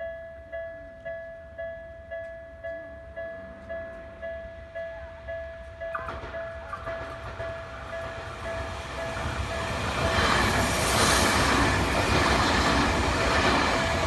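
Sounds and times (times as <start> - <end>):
level crossing warning bell: 0.0 - 14.0
train rumble and wheel noise: 2.0 - 14.0.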